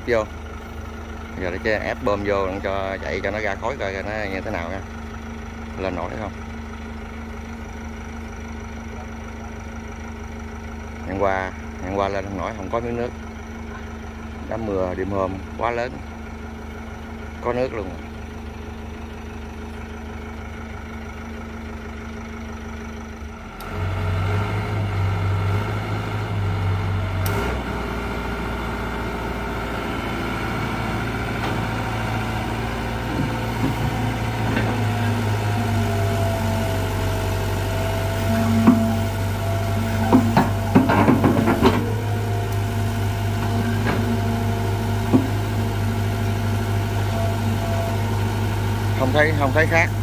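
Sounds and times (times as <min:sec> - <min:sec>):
excavator diesel engine under load: 0:00.0 - 0:50.0.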